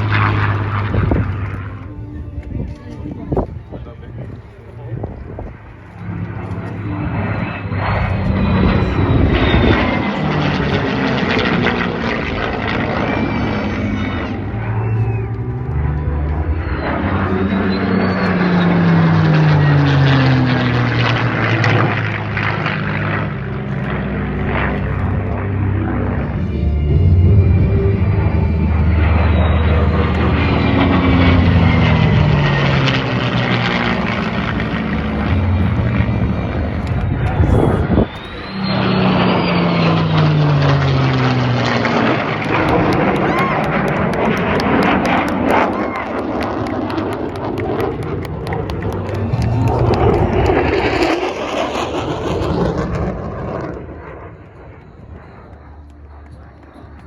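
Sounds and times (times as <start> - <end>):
aircraft engine low pass: 0.0 - 57.0.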